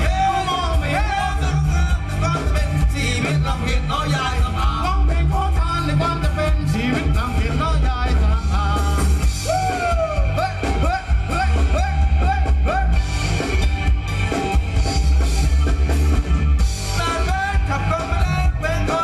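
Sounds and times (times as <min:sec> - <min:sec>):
heavy bass beat: 0:00.0 - 0:19.0
live band playing dance music: 0:00.0 - 0:19.0.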